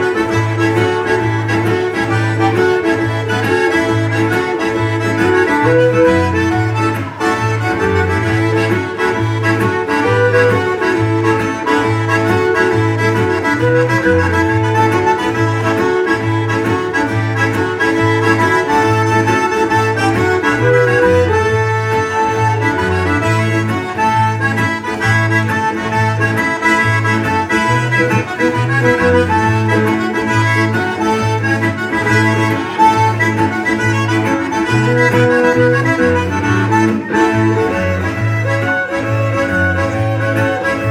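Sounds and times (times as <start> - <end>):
bass notes: 0.0 - 40.9
bowed fiddle: 0.0 - 40.9
button accordion: 0.0 - 40.9
strummed acoustic guitar: 0.0 - 40.9.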